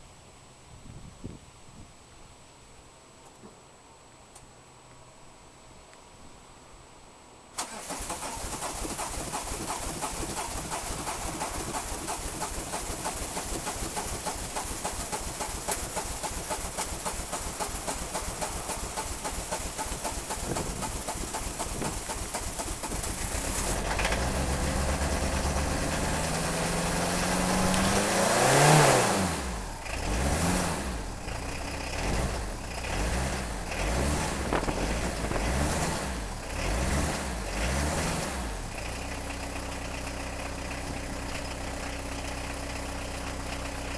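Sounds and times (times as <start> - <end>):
diesel engine cranking on starter: 7.6 - 43.9
diesel engine running unevenly: 7.6 - 43.9.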